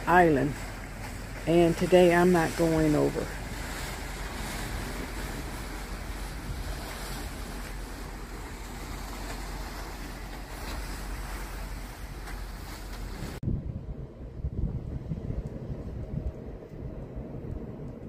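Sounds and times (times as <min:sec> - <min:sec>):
open sea wash: 0:00.0 - 0:18.0
wind on microphone: 0:00.0 - 0:18.0.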